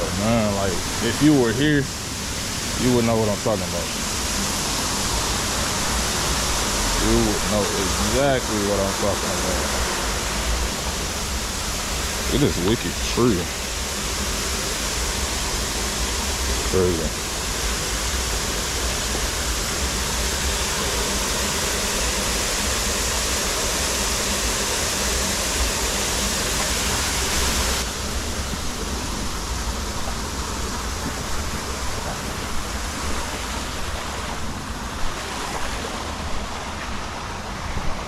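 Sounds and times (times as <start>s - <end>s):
water feature splashing: 0.0s - 38.0s.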